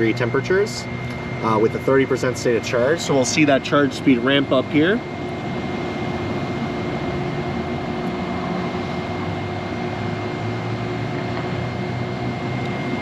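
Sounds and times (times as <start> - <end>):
cooling fans whirring: 0.0 - 13.0
high-pitched whine: 0.0 - 13.0.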